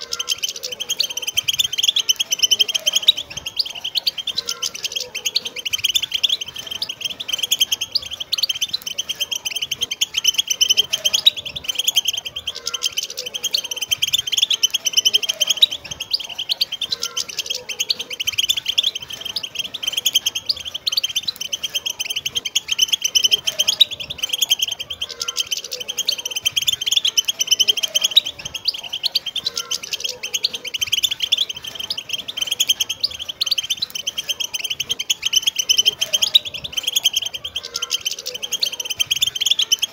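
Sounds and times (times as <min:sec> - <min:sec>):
birds twittering and singing: 0:00.0 - 0:39.9.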